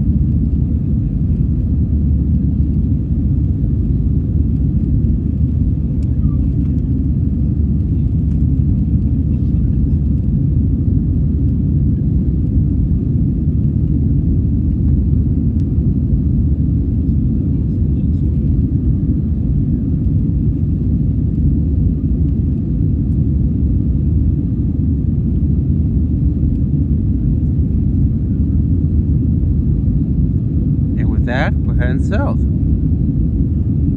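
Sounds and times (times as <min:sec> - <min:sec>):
jet engine cabin rumble: 0:00.0 - 0:33.9.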